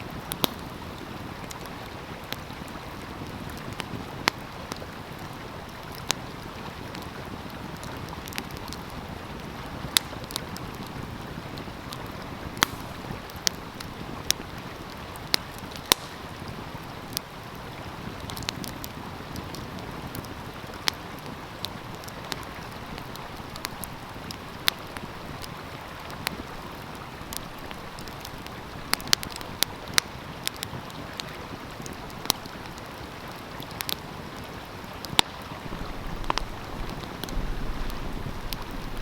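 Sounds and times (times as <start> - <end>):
flowing stream: 0.0 - 39.0
wood fire crackling: 0.0 - 39.0.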